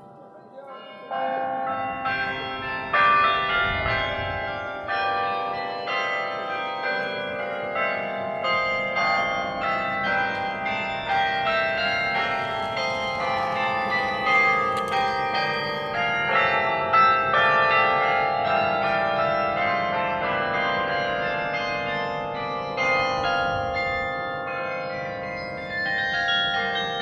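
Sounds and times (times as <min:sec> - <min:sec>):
tower bells ringing a melody: 0:00.0 - 0:27.0.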